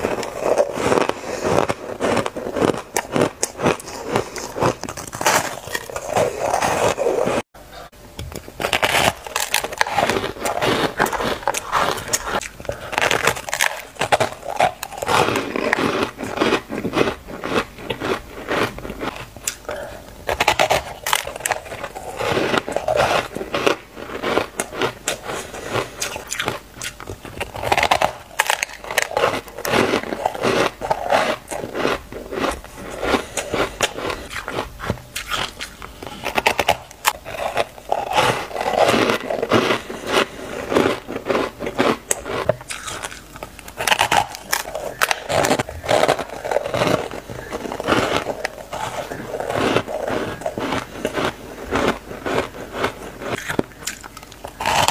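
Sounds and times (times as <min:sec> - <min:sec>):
person crunching ice: 0:00.0 - 0:07.4, 0:08.5 - 0:54.9.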